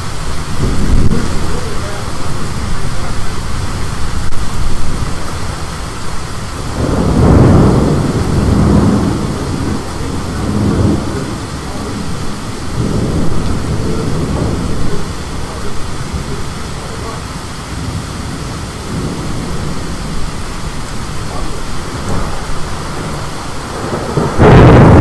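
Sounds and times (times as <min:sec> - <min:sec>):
steady rain: 0:00.0 - 0:25.0
thunder rumbling: 0:00.0 - 0:25.0
wind: 0:00.0 - 0:25.0.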